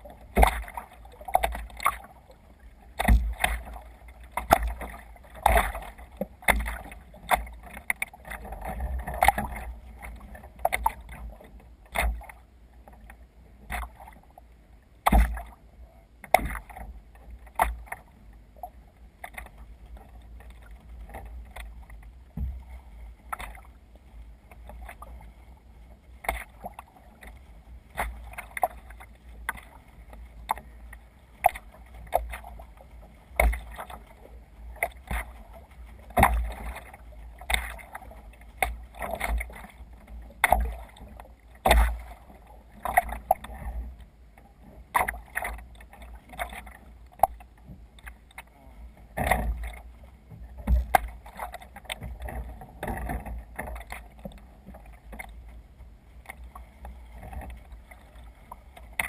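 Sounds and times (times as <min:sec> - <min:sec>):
water splashing against kayak hull: 0:00.0 - 0:59.0.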